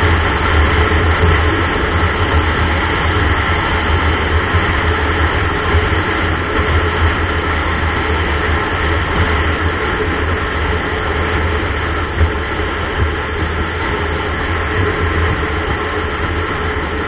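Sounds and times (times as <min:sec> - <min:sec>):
vehicle wind and road noise: 0:00.0 - 0:17.0.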